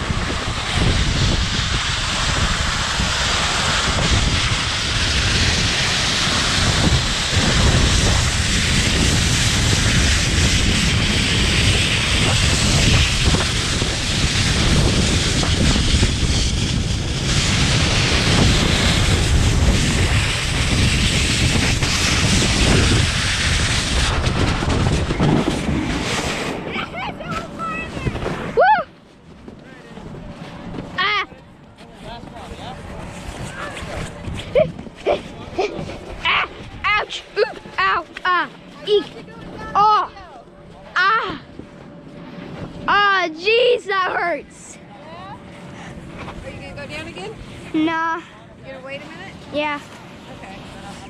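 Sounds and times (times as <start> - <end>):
rushing rumble of sliding: 0.0 - 51.0
wind buffeting microphone: 0.0 - 51.0.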